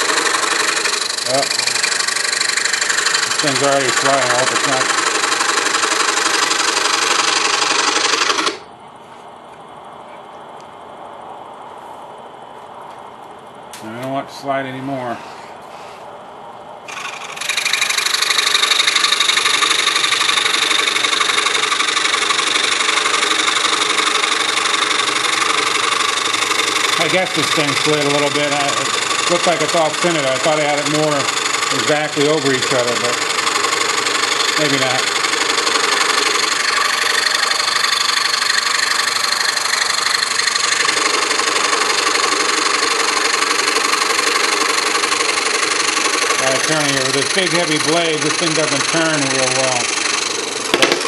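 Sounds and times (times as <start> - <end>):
scroll saw cutting wood: 0.0 - 8.6, 16.9 - 51.0.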